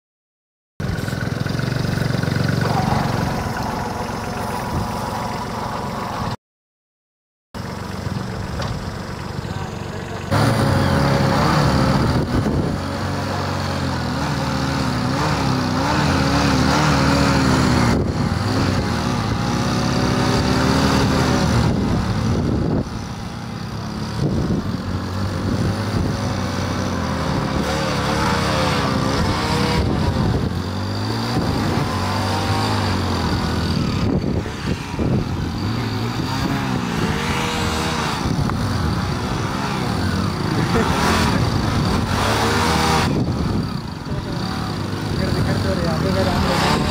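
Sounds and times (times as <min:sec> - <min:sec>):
diesel tractor engine under load: 0:00.8 - 0:06.4, 0:07.6 - 0:46.9
motorcycle engines revving: 0:00.8 - 0:06.4, 0:07.6 - 0:46.9.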